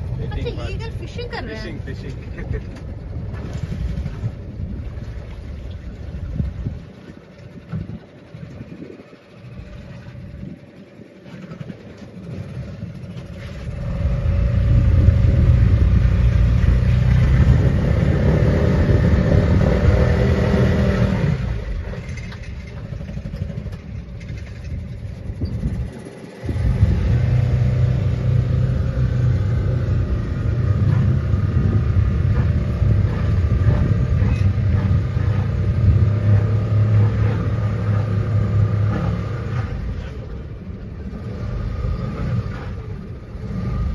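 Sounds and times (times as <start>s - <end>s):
motorboat engine rumbling: 0.0s - 43.9s.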